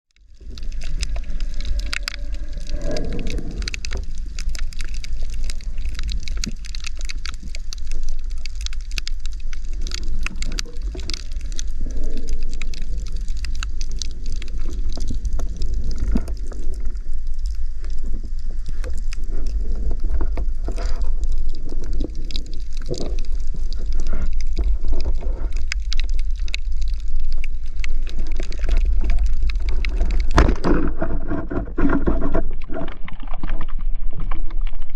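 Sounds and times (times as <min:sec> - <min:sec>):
low underwater rumble: 0:00.1 - 0:34.9
sharp clicks and crackles: 0:00.1 - 0:34.9
water gurgling: 0:00.1 - 0:34.9.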